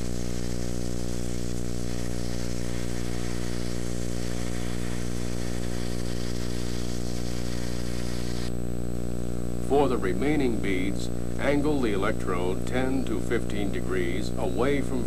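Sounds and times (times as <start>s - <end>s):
welding arc hissing: 0.0s - 8.6s, 9.4s - 15.0s
low electrical hum: 0.0s - 15.0s.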